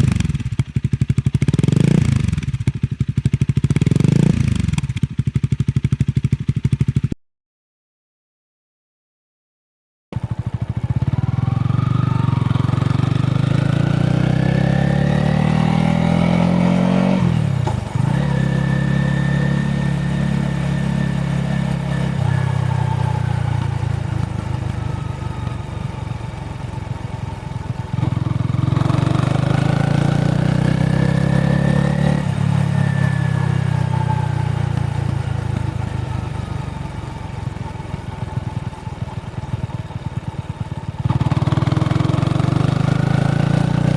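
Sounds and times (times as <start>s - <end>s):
motorcycle engine revving: 0.0s - 7.2s, 10.2s - 43.9s.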